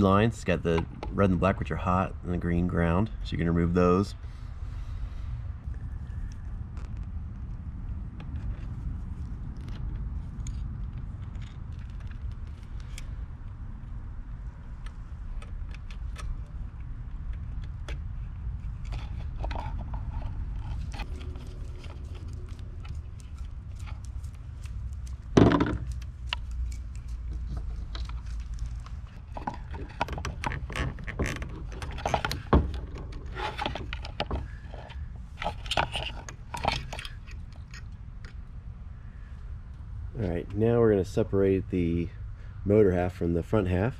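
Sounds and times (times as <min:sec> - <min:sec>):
steady low rumble: 0:00.0 - 0:43.9.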